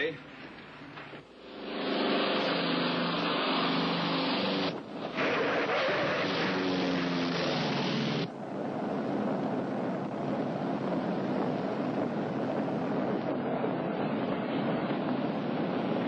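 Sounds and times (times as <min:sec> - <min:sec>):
airplane engines droning: 0:00.0 - 0:16.0
engine and wind rush: 0:00.0 - 0:16.0.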